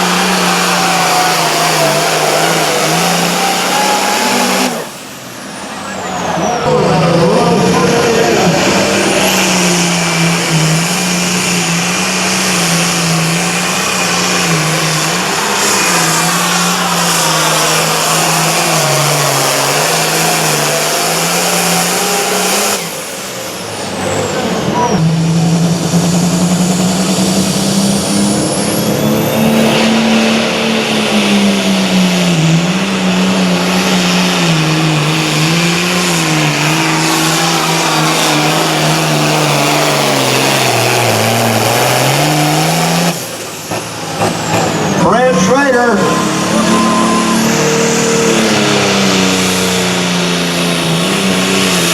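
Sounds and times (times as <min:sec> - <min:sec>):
tractor engine at high revs: 0:00.0 - 0:51.9.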